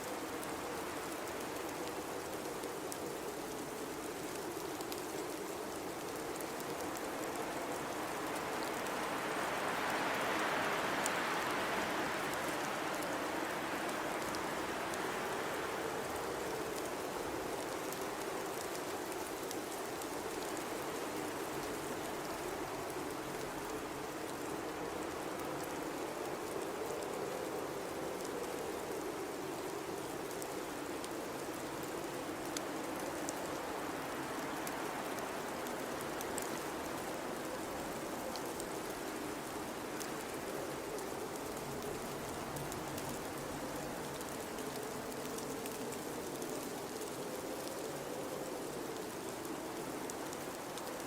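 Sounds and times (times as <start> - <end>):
blizzard wind blowing: 0.0 - 51.0
faint scattered ticks: 0.0 - 51.0.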